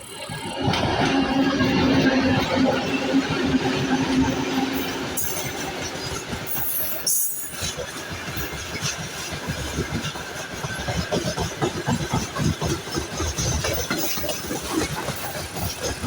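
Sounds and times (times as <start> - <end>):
train wheels clacking over rail joints: 0.1 - 16.0.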